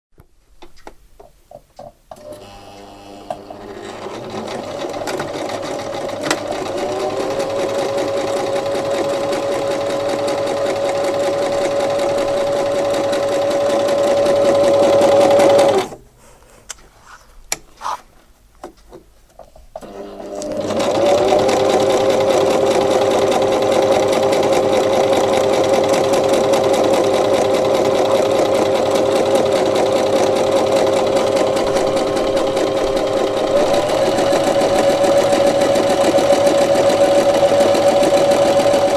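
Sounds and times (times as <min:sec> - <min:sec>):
sewing machine stitching: 0:02.1 - 0:16.0, 0:19.7 - 0:38.9.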